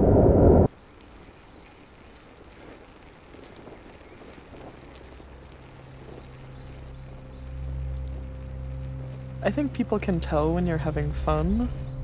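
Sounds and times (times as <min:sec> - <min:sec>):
low steady hum: 0:00.0 - 0:12.0
bicycle rolling hiss: 0:00.7 - 0:12.0.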